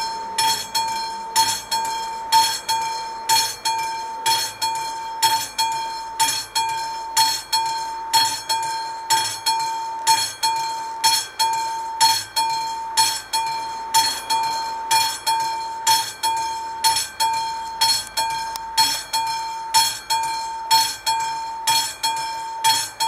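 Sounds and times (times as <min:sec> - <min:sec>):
level crossing bell ringing: 0:00.0 - 0:23.0.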